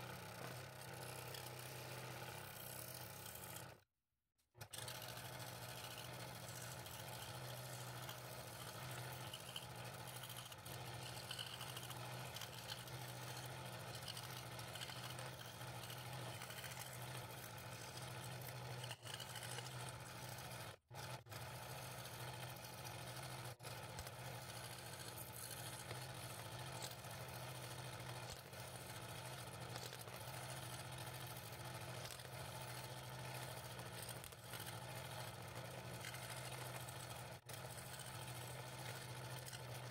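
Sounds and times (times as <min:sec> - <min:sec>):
scroll saw cutting thin wood: 0:00.0 - 0:03.9, 0:04.6 - 0:39.9.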